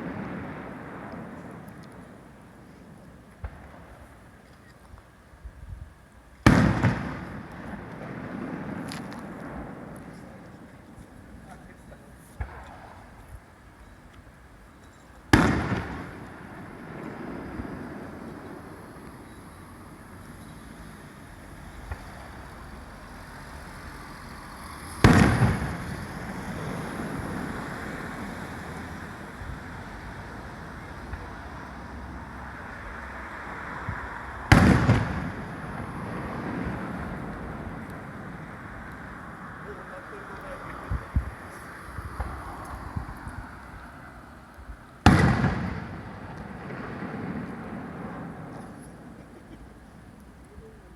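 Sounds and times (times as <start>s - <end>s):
firework bursts with rumbling echo: 0.0s - 4.4s, 6.4s - 13.5s, 15.3s - 20.3s, 21.2s - 33.0s, 33.7s - 43.6s, 44.3s - 50.4s.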